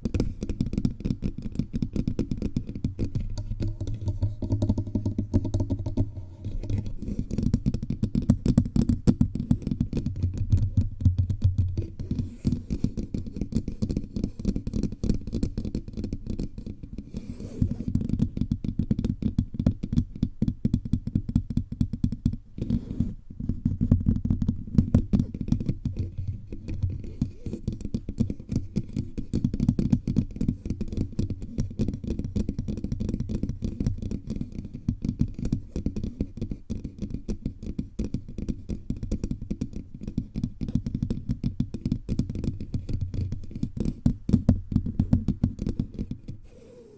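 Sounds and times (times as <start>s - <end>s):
fingertips tapping on microphone: 0.0s - 46.8s.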